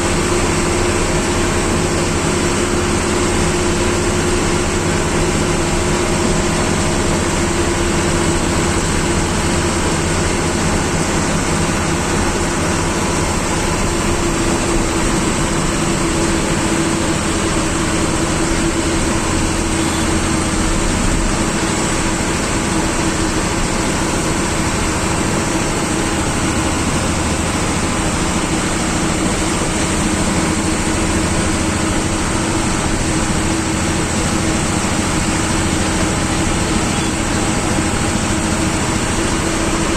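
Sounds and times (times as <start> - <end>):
bus diesel engine rumble: 0.0 - 39.9
road noise: 0.0 - 39.9.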